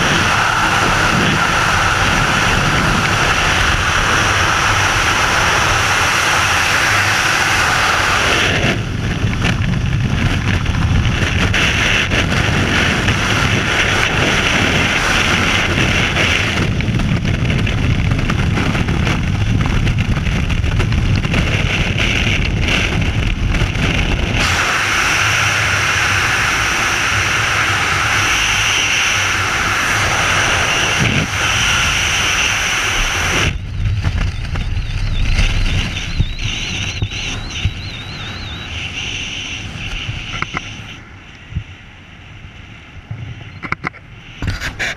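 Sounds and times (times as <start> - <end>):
freefall wind rushing over microphone: 0.0 - 44.9.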